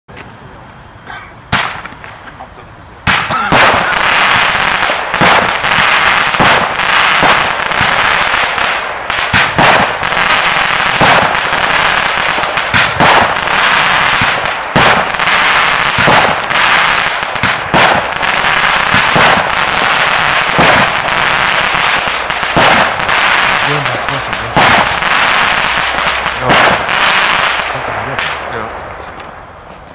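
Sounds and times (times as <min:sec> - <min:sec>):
firework bang: 0:01.5 - 0:02.2, 0:03.0 - 0:29.4
firework bangs and pops: 0:01.5 - 0:02.4, 0:03.0 - 0:29.4.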